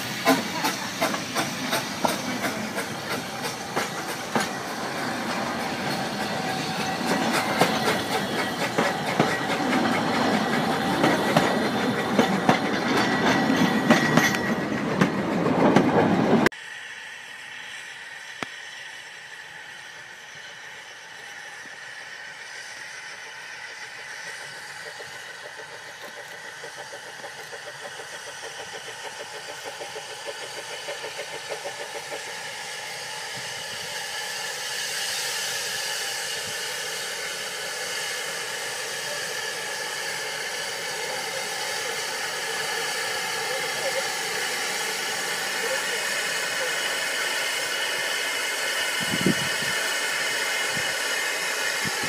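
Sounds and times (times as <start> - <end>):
loud steam hiss: 0.0 - 52.0
steam locomotive exhaust beats: 0.0 - 52.0.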